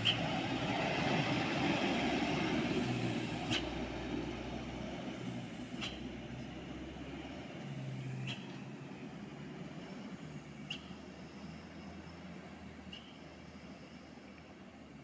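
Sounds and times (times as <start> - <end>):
dump truck passing: 0.0 - 15.0.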